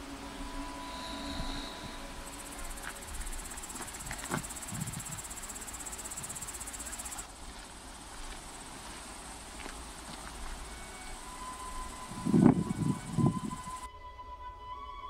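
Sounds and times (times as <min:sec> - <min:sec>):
cricket trilling: 0:00.0 - 0:13.9
wind rumble on microphone: 0:00.0 - 0:13.9.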